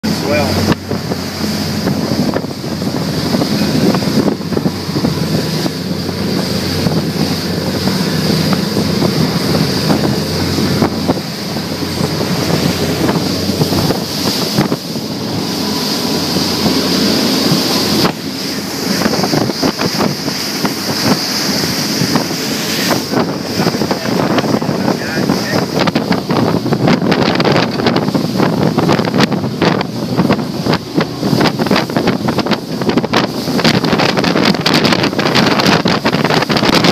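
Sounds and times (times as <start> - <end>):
outboard motors droning: 0.0 - 36.9
water noise: 0.0 - 36.9
wind rushing on microphone: 0.0 - 36.9.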